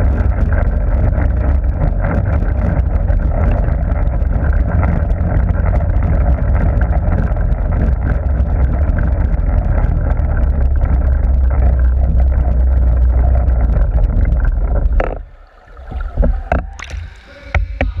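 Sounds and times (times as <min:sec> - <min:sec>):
underwater churning water rumble: 0:00.0 - 0:18.0
water splashes: 0:00.0 - 0:18.0.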